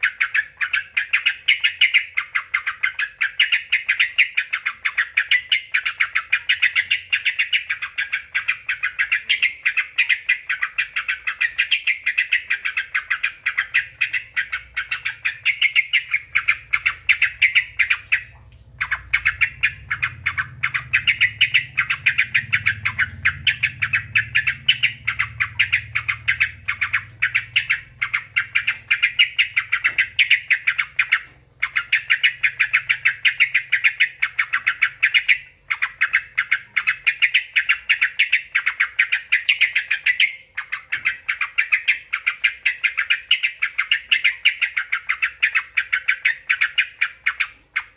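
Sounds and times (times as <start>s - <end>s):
bird rapid repeated chirps: 0.0s - 47.9s.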